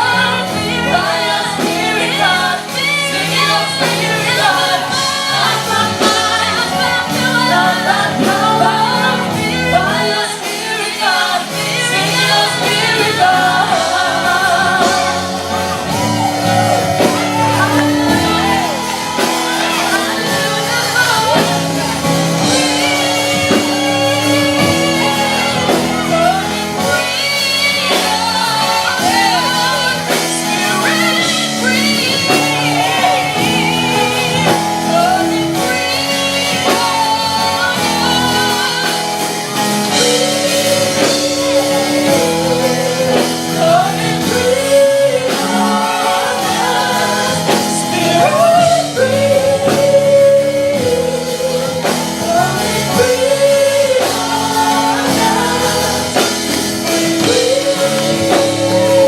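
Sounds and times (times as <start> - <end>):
band playing steady chords: 0.0 - 59.0
gospel singing: 0.0 - 59.0.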